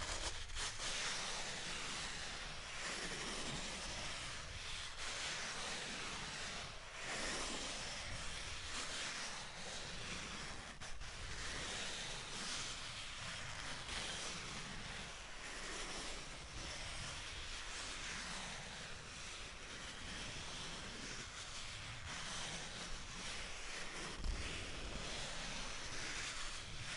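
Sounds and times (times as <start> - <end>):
styrofoam rubbing rustle: 0.0 - 26.9.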